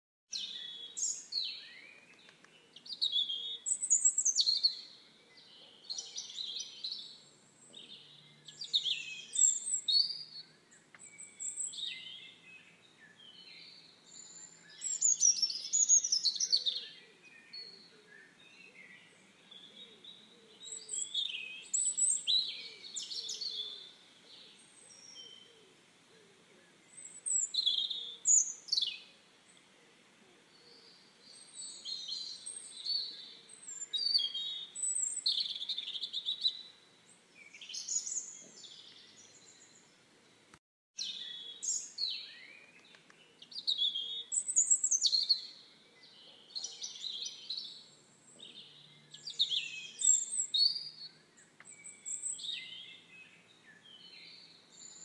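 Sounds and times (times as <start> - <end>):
songbirds singing: 0.3 - 55.0.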